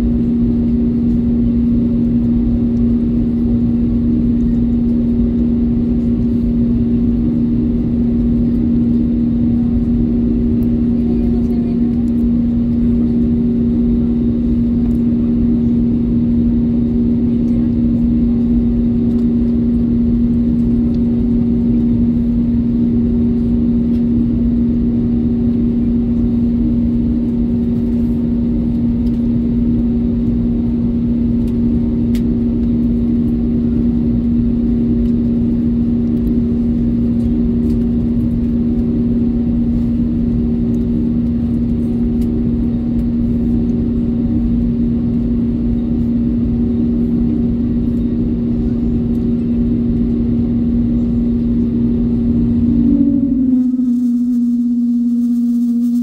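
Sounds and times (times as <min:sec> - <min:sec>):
jet engines idling hum: 0:00.0 - 0:56.0.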